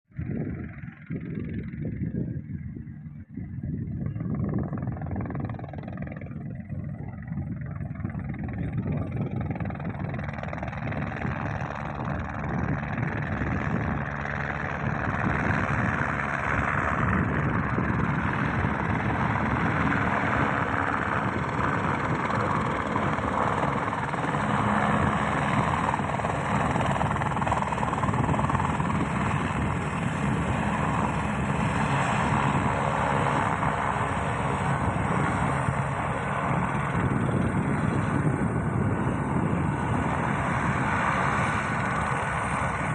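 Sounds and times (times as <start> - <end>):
helicopter rotor and engine: 0.1 - 42.9.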